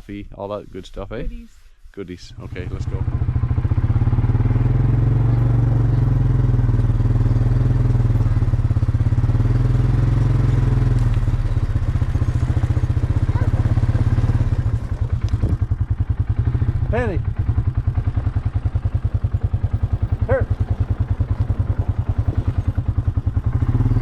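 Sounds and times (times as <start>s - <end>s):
small engine running: 2.2s - 24.0s.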